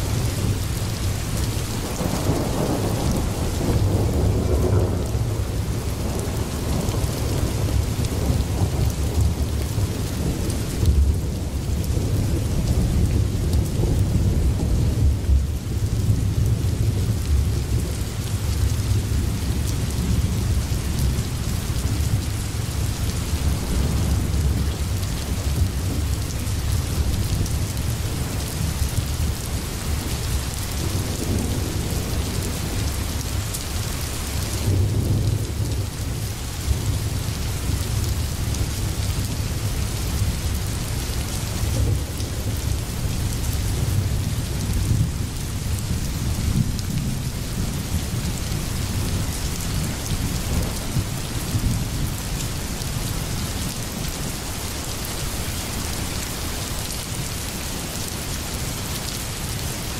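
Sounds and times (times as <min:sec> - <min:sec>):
steady rain: 0:00.0 - 0:59.9
deep rumble of thunder: 0:01.5 - 0:33.6, 0:34.3 - 0:40.8, 0:41.6 - 0:52.3.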